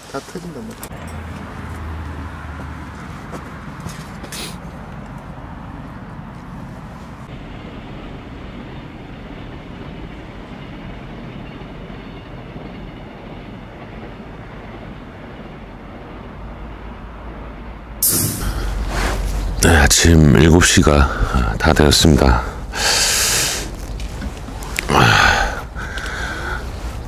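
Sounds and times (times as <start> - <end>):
train rumbling with rushing hiss: 1.6 - 27.0.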